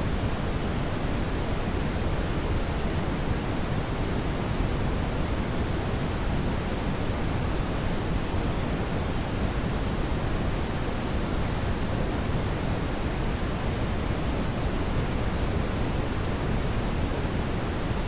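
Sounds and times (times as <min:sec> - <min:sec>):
brown noise hiss: 0:00.0 - 0:18.0.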